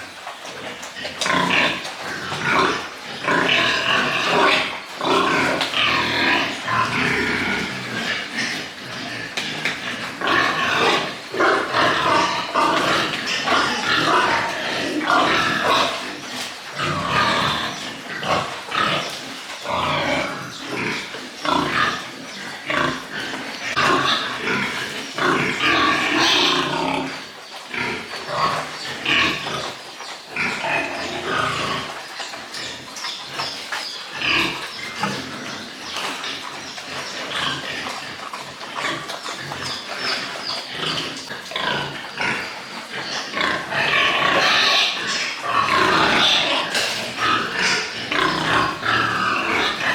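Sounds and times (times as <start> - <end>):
pigs grunting and squealing: 0.0 - 49.9.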